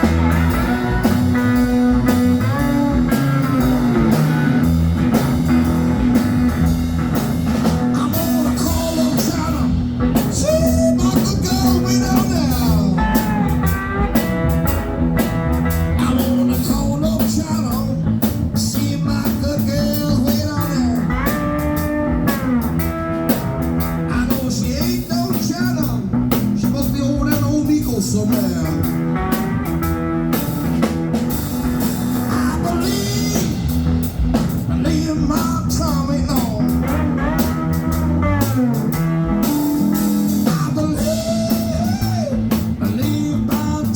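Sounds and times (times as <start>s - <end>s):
blues on cigar box guitar: 0.0s - 43.9s.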